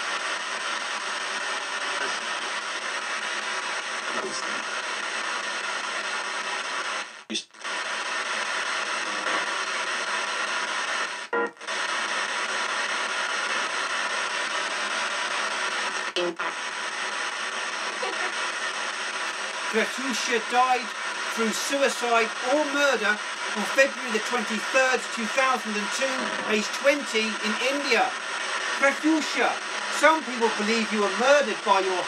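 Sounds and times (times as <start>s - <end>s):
radio static: 0.0s - 32.0s
snatches of broadcast music: 0.0s - 32.0s
snatches of broadcast voices: 0.0s - 32.0s.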